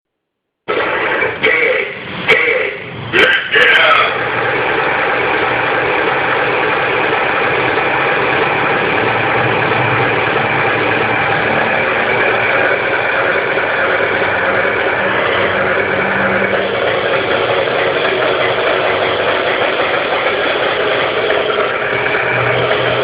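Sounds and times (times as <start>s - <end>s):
toy bulldozer engine idling: 0.7s - 23.0s.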